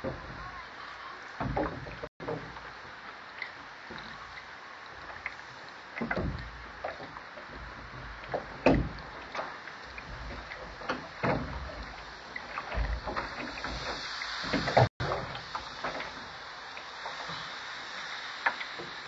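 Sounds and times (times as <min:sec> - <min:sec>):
boat knocks and clunks: 0:00.0 - 0:17.4
steady background hiss: 0:00.0 - 0:19.0
water lapping against hull: 0:00.0 - 0:19.0.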